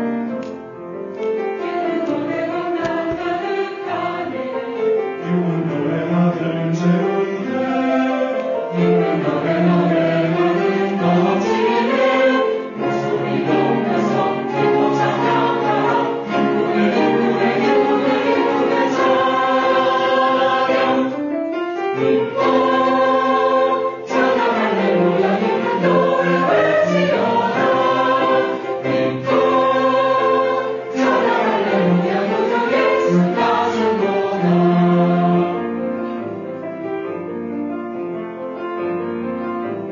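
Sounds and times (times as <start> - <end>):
choir singing a hymn: 1.6 - 36.0.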